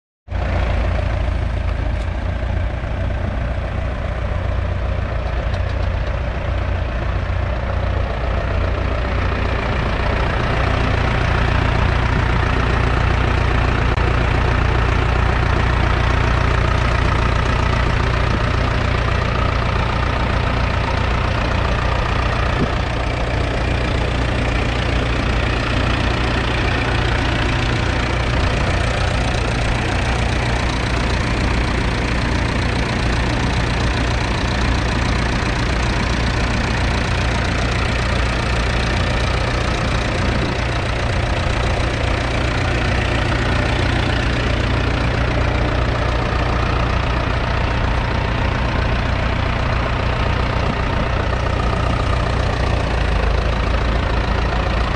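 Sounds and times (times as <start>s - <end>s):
diesel tractor engine idling: 0.3s - 54.9s.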